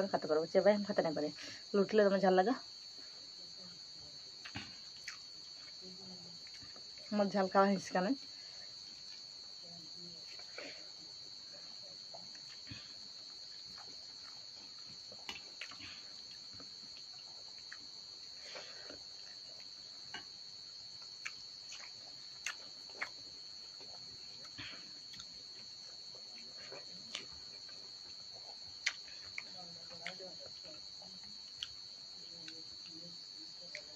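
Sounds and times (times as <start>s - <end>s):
crickets chirring: 0.0s - 33.9s.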